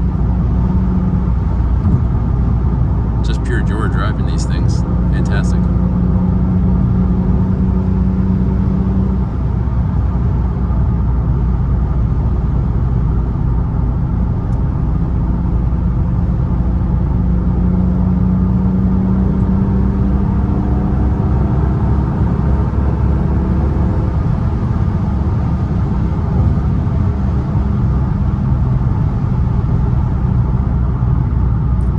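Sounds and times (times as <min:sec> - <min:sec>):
car engine from inside cabin: 0:00.0 - 0:31.9
road noise: 0:00.0 - 0:31.9.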